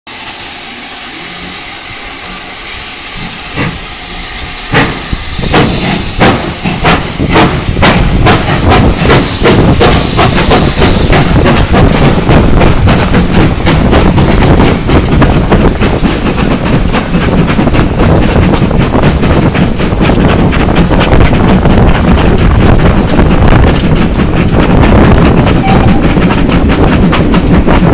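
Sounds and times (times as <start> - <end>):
steam hissing: 0.1 - 27.9
steam locomotive chuffing: 0.1 - 27.9.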